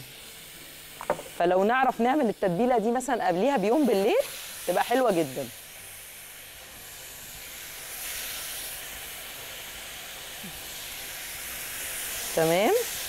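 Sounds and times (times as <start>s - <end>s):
meat sizzling on grill plate: 0.0s - 13.0s.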